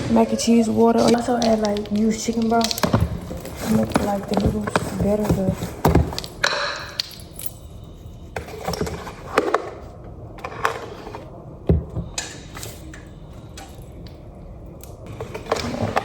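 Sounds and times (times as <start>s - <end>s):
kitchen items clattering: 0.0s - 14.0s, 15.1s - 16.0s.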